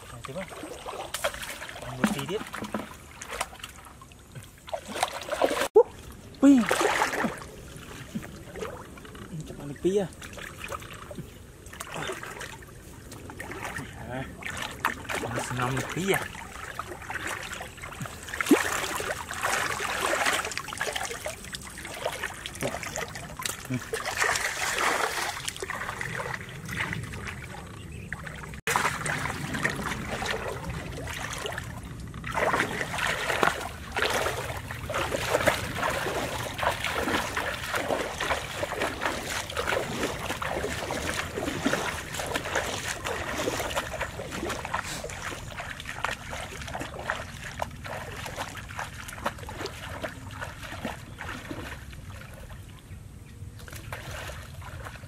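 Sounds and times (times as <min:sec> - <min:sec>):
person wading through water: 0:00.0 - 0:55.0.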